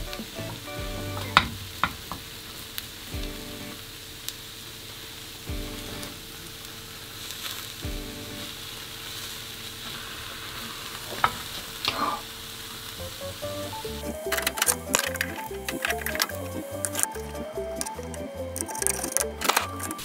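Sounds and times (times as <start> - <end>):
egg sizzling in oil: 3.8 - 20.0.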